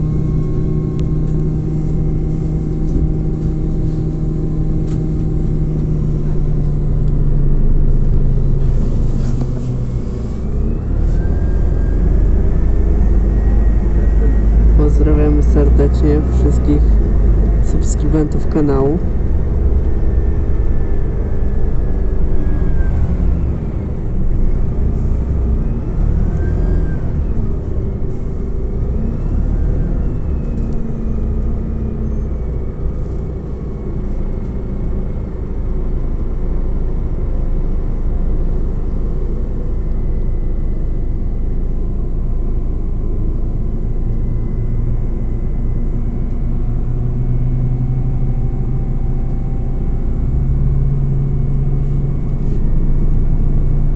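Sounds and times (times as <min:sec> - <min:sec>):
bus engine rumble: 0:00.0 - 0:53.9
bus whine: 0:00.0 - 0:53.9.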